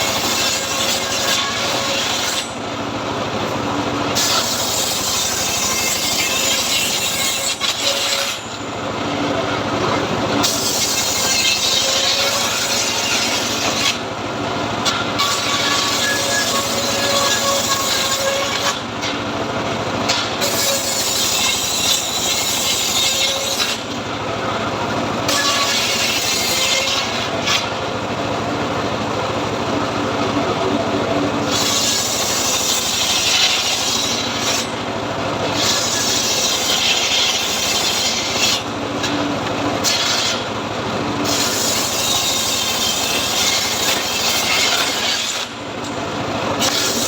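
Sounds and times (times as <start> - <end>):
saw rasping through wood: 0.0 - 47.0
sawmill motor running: 0.0 - 47.0.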